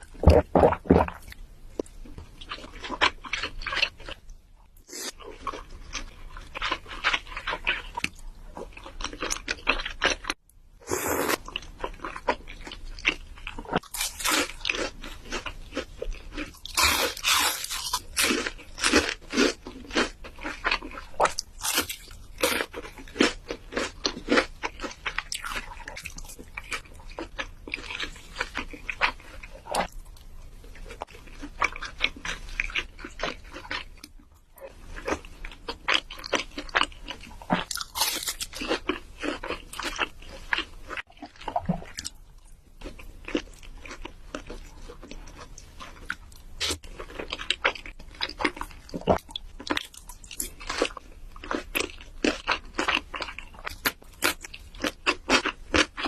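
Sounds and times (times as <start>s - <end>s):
crunchy food being chewed: 0.0s - 56.0s.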